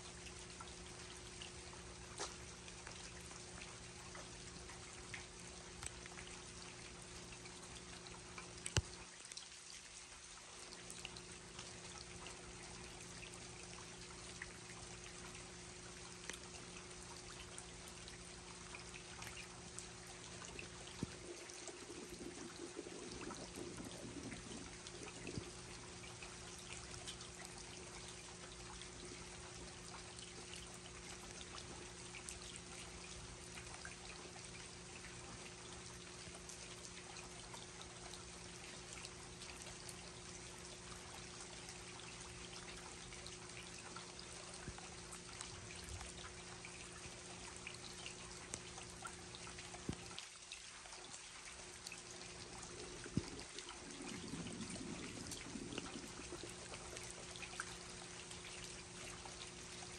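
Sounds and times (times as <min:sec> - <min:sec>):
faint low hum: 0:00.0 - 0:59.9
steady rain: 0:00.0 - 0:59.9
water pouring and trickling: 0:00.0 - 0:59.9.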